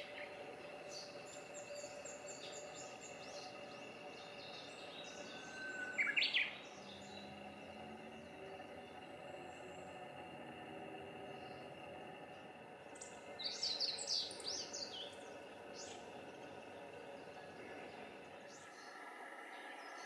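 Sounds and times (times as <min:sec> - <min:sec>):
birds chirping and singing: 0:00.0 - 0:10.5, 0:11.1 - 0:20.0.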